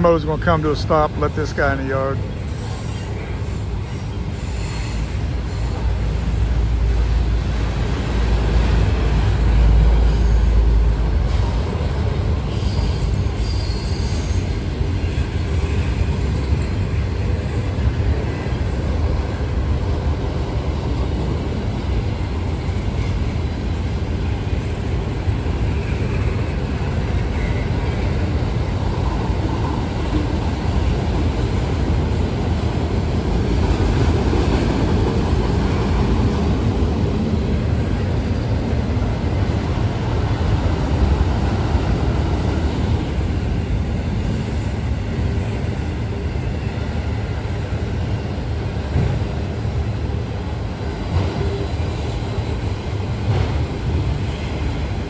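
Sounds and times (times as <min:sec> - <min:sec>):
freight train rumbling and rattling: 0:00.0 - 0:55.0.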